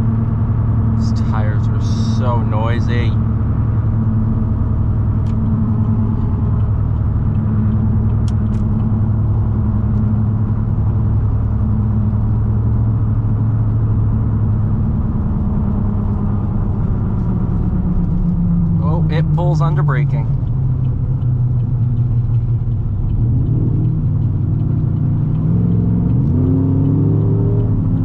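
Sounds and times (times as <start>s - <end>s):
truck engine droning at cruise: 0.0s - 28.0s.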